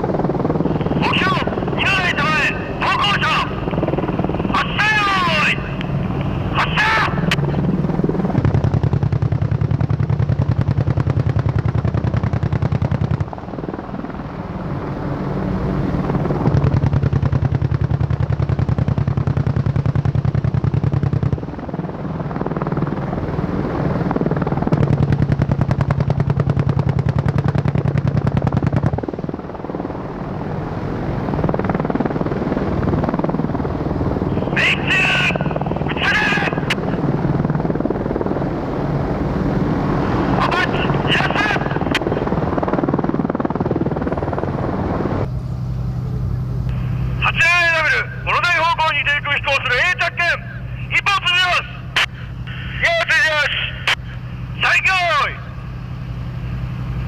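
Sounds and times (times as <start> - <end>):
helicopter rotor and engines: 0.0 - 57.0.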